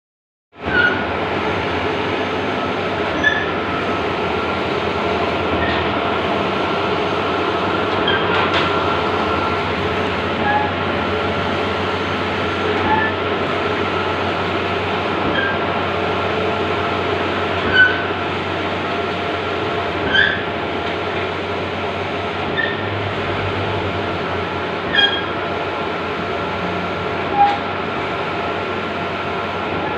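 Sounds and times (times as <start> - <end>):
printer whirring and humming: 0.6 - 29.9.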